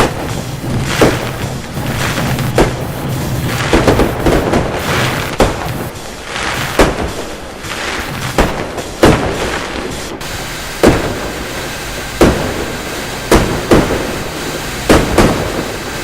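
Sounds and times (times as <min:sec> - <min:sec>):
fireworks booming: 0:00.0 - 0:16.0
steady background rumble: 0:00.0 - 0:16.0.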